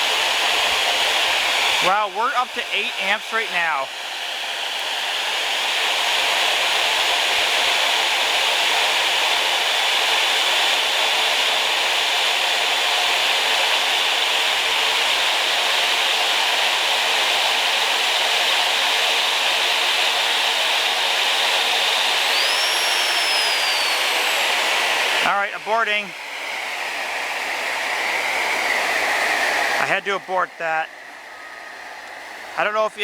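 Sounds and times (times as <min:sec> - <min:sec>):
vacuum motor whirring: 0:00.0 - 0:33.0.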